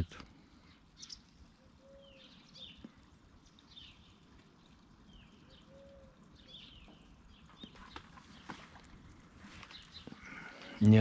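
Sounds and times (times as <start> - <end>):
bird chirping: 0.0 - 11.0
outdoor background noise: 0.0 - 11.0.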